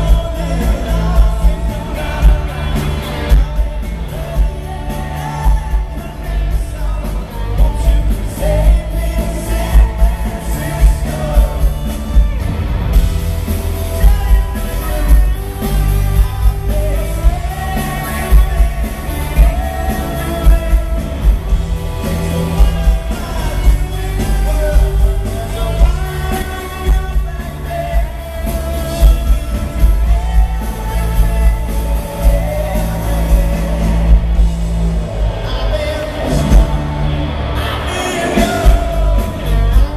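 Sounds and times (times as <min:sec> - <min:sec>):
man singing: 0:00.0 - 0:12.5, 0:13.2 - 0:34.5, 0:35.2 - 0:39.9
bass guitar: 0:00.0 - 0:39.9
electric guitars: 0:00.0 - 0:39.9
steady drum beat: 0:00.0 - 0:39.9.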